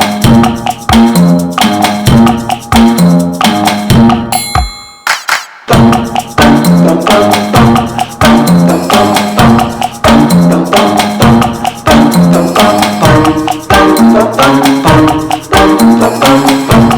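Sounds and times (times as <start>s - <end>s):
music with percussive beat: 0.0s - 16.9s.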